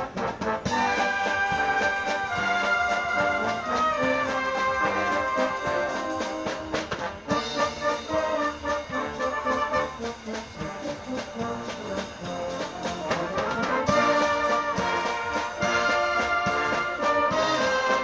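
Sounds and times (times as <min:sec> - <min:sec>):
brass band playing: 0:00.0 - 0:18.0
steady drum beat: 0:00.0 - 0:18.0.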